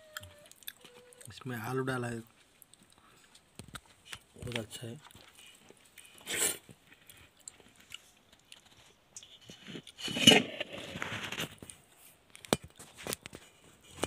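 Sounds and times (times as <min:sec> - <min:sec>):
soft handling noises: 0:00.8 - 0:14.0.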